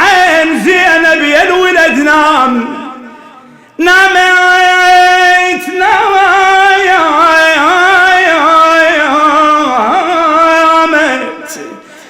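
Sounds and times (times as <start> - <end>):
man singing a lament: 0.0 - 12.0.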